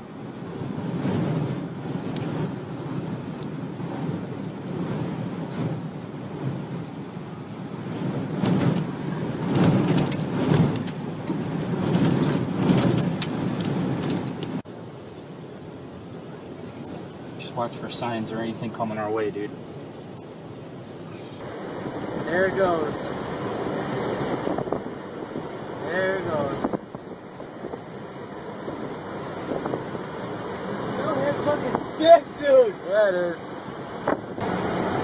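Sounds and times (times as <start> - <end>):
wind and rain roaring on car: 0.0 - 35.0.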